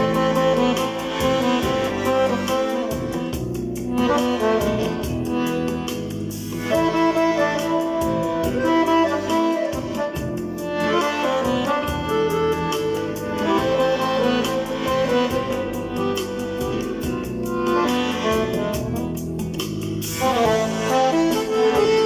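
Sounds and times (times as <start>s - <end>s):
accordion playing a tune: 0.0s - 22.0s.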